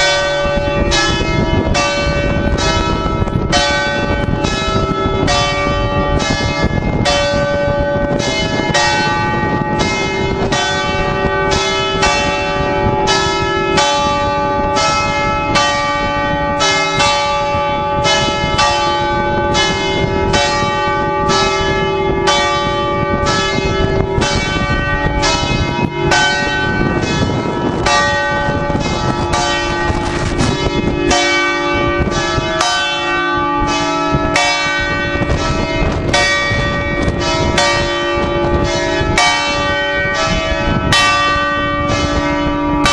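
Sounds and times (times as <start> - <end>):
large church bells ringing: 0.0 - 42.9.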